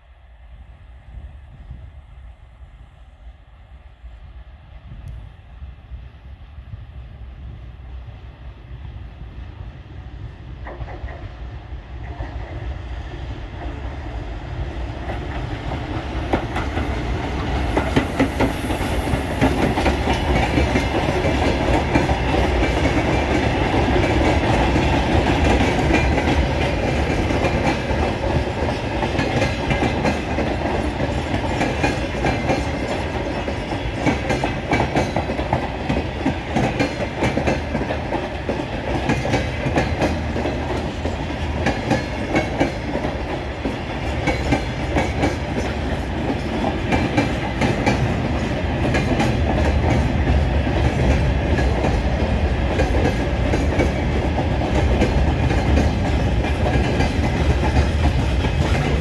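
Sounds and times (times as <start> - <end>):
diesel locomotive passing: 0.0 - 59.0
train wheels clicking on rail joints: 10.4 - 59.0.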